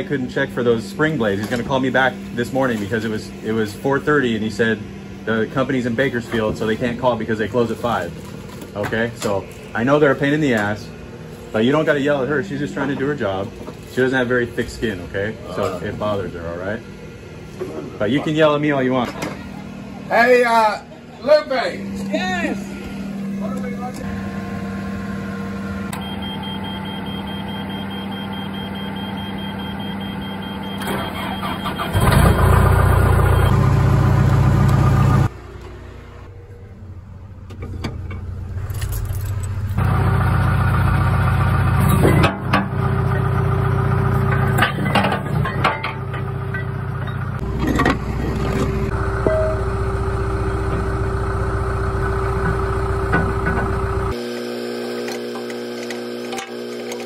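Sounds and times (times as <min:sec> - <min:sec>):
loader engine running: 0:00.0 - 0:57.0.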